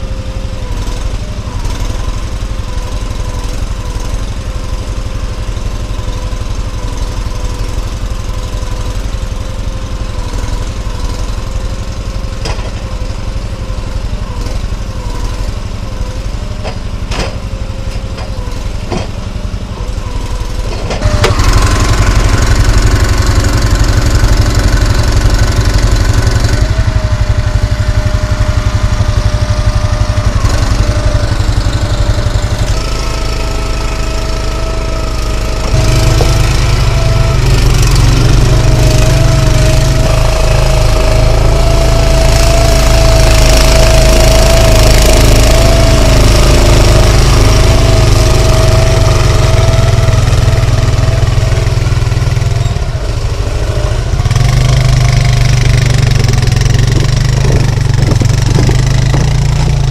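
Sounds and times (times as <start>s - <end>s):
engine running: 0.0s - 59.9s
hydraulic whine: 0.0s - 59.9s.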